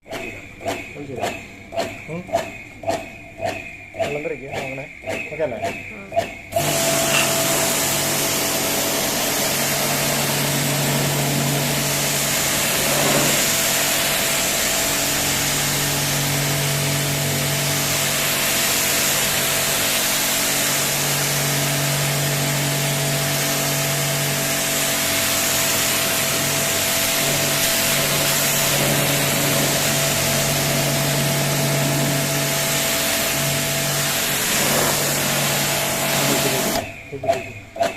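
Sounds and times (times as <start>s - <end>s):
pump humming: 0.0s - 37.9s
pressure washer water jet hissing: 6.5s - 37.4s.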